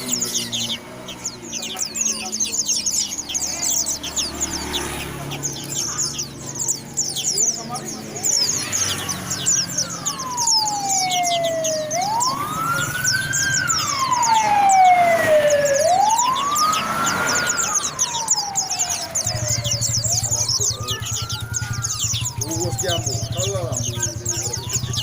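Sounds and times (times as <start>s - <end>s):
emergency siren wailing: 0.0s - 25.0s
small birds chirping: 0.0s - 25.0s.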